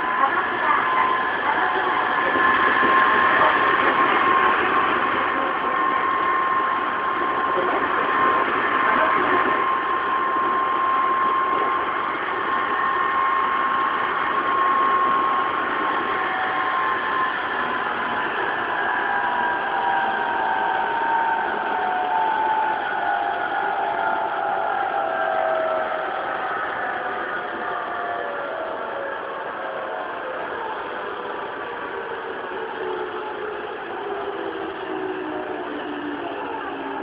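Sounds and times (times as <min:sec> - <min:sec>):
traction motor whine: 0:00.0 - 0:37.0
train wheels rumbling on rails: 0:00.0 - 0:37.0.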